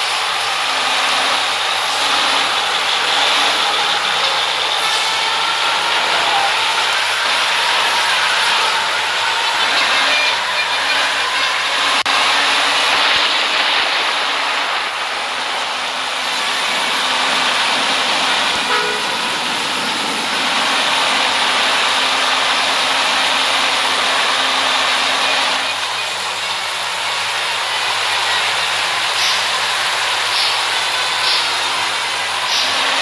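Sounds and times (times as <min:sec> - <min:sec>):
tyres and wind rushing: 0:00.0 - 0:33.0
vehicle engine hum: 0:00.0 - 0:33.0.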